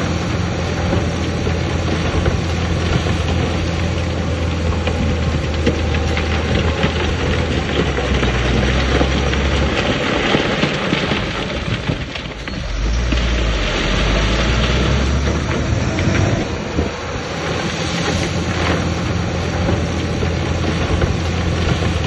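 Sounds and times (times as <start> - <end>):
dense rattling: 0.0 - 22.0
heavy machinery diesel engine: 0.0 - 22.0.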